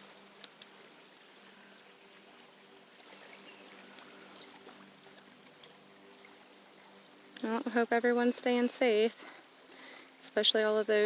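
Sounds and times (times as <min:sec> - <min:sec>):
creek rushing: 0:00.0 - 0:10.7.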